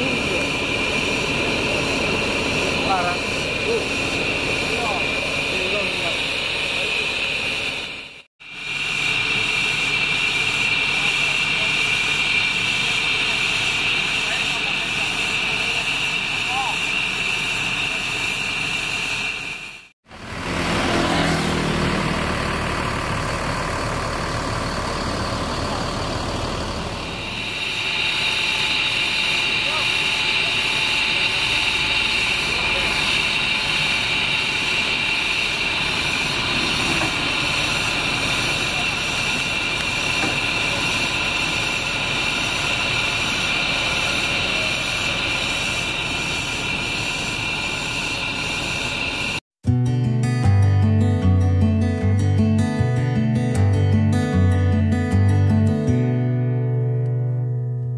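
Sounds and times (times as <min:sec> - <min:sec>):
bus diesel engine running: 0:00.0 - 0:49.4, 0:50.2 - 0:56.3
high-pitched whine: 0:00.0 - 0:49.4.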